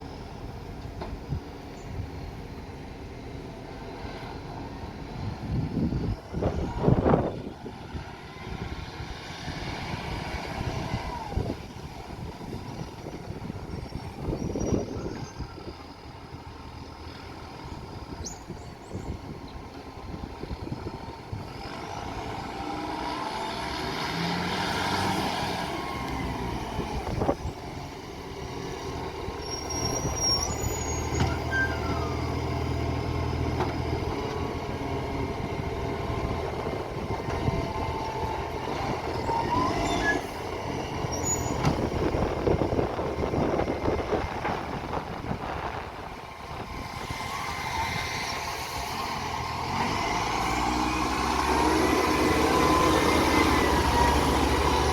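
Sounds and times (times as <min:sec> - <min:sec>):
garbage truck engine running: 0:00.0 - 0:24.7, 0:25.6 - 0:54.9.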